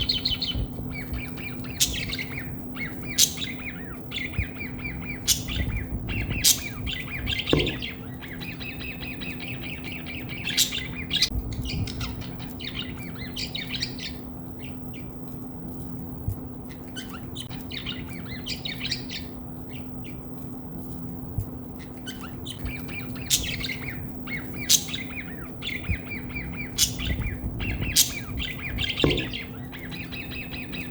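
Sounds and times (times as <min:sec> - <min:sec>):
budgerigars chattering and warbling: 0:00.0 - 0:15.1, 0:16.7 - 0:20.2, 0:21.8 - 0:30.9
steady low hum: 0:00.0 - 0:30.9.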